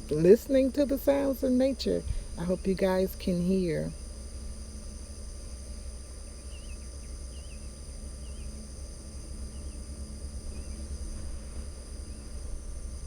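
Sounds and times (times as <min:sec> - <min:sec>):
crickets trilling: 0:00.0 - 0:13.0
low steady rumble: 0:00.0 - 0:13.0.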